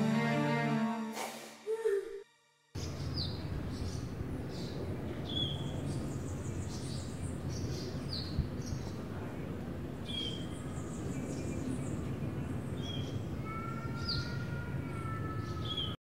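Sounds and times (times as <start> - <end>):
birds chirping: 2.8 - 16.0
low background noise: 2.8 - 16.0.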